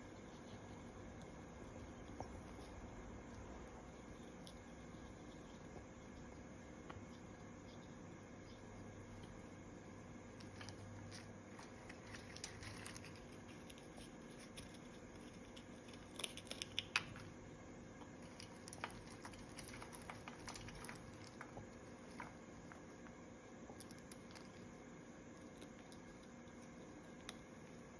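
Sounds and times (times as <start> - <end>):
parrot beak crunching seeds: 0.0 - 9.6, 10.3 - 17.4, 18.0 - 27.9.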